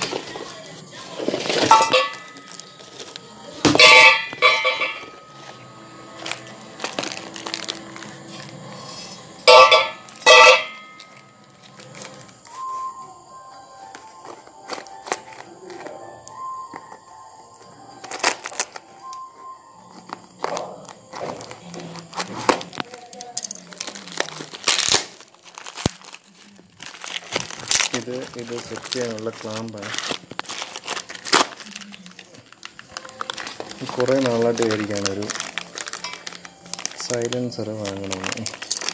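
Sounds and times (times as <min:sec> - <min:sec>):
plastic wrap crumpling and tearing: 0:00.0 - 0:12.6, 0:14.0 - 0:16.0, 0:18.0 - 0:19.1, 0:19.9 - 0:38.9
packing paper rustling: 0:00.0 - 0:12.8, 0:18.0 - 0:19.0, 0:19.9 - 0:38.9.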